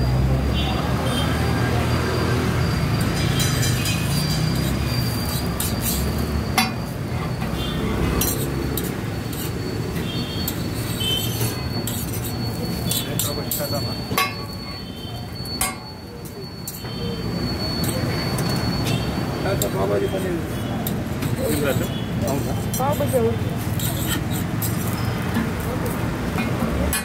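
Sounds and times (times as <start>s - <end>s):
background chatter: 0.0s - 27.0s
metal spatula scraping griddle: 3.0s - 16.0s, 16.6s - 27.0s.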